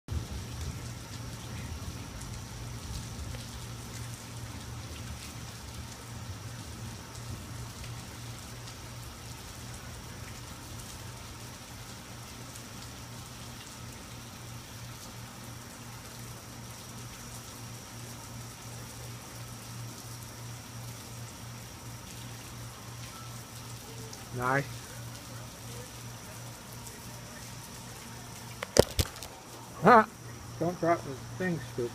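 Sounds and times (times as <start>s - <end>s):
constant low hum: 0.1s - 31.9s
steady rain falling: 0.1s - 31.9s.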